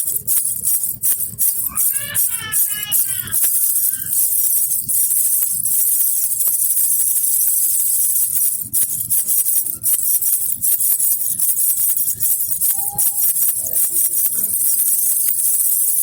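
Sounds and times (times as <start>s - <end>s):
jingle bell rattle shaking: 0.0s - 16.0s.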